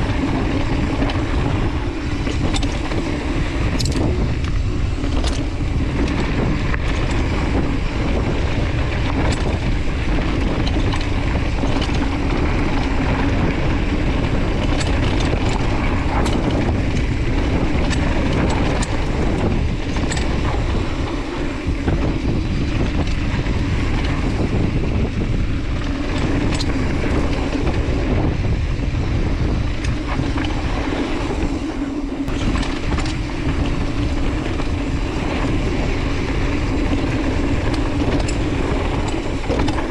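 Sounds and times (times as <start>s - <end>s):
bike clicks and rattles: 0.0s - 39.9s
tyres rolling on dirt: 0.0s - 39.9s
wind on microphone: 0.0s - 39.9s.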